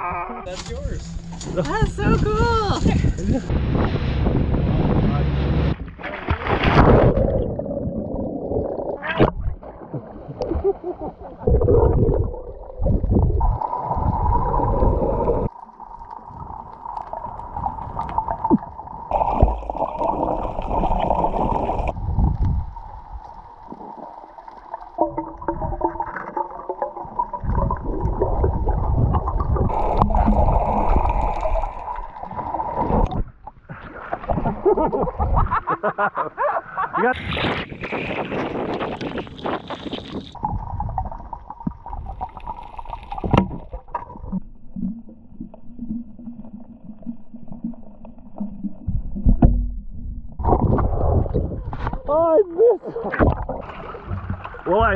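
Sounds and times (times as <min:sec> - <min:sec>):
muffled underwater rumbling: 0:00.0 - 0:35.7, 0:37.2 - 0:54.9
choppy water splashing: 0:00.5 - 0:35.8, 0:37.1 - 0:54.9
rush of bubbles underwater: 0:05.7 - 0:35.6, 0:37.2 - 0:52.0.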